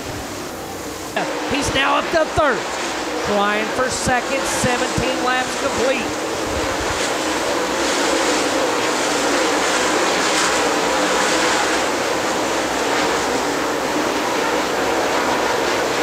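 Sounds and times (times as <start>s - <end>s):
race car engines running hard: 0.0s - 16.0s.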